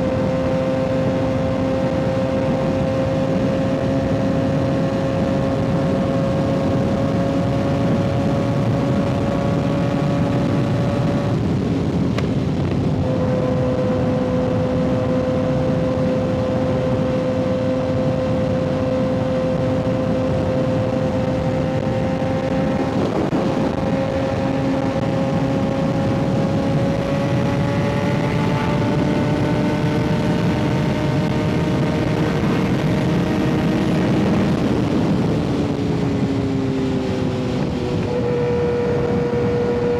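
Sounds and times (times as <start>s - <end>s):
motorcycle engine cruising: 0.0s - 39.9s
rushing wind: 0.0s - 39.9s.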